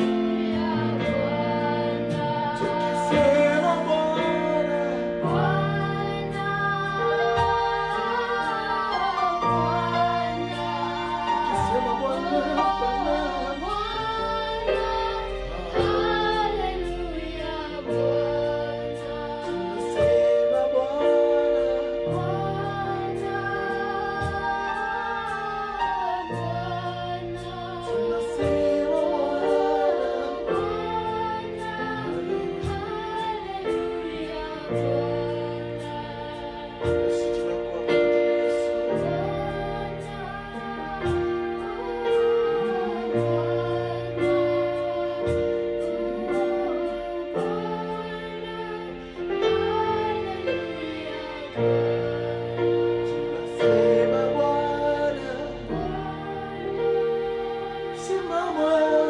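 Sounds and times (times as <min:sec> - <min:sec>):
electronic keyboard chords: 0:00.0 - 0:59.0
people singing worship song: 0:00.0 - 0:59.0.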